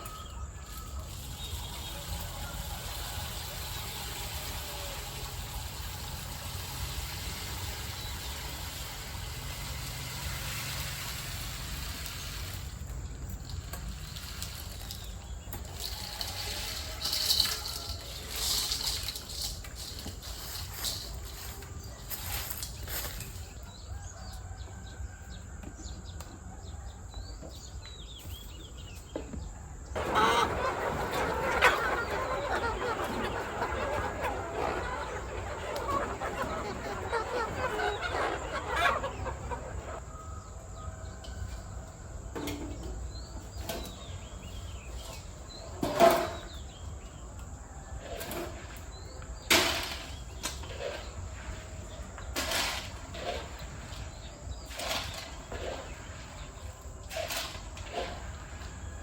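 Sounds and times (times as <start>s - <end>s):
chickens clucking: 0.0s - 25.0s, 29.9s - 59.0s.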